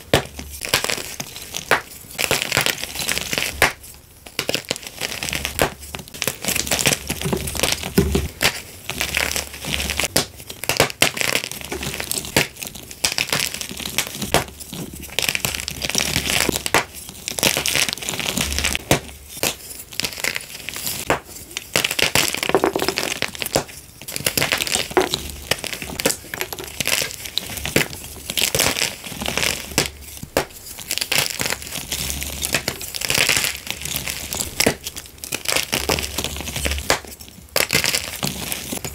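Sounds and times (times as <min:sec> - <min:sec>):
chalk blocks snapping and crunching: 0:00.0 - 0:38.9.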